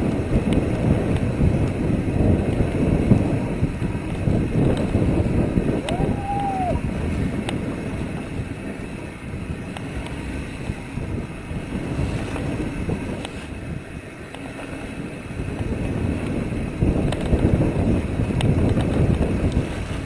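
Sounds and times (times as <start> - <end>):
bike clicks and rattles: 0.0 - 6.4, 7.0 - 20.0
wind buffeting microphone: 0.0 - 20.0.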